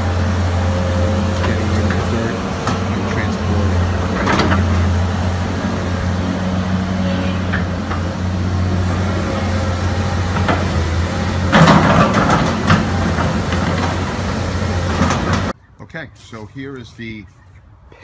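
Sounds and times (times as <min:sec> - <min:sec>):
excavator diesel engine running: 0:00.0 - 0:15.6.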